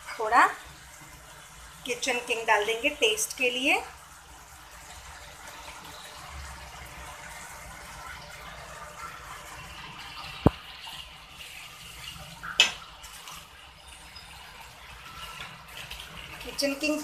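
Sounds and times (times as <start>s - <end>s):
gravy bubbling in a pan: 0.0s - 17.0s.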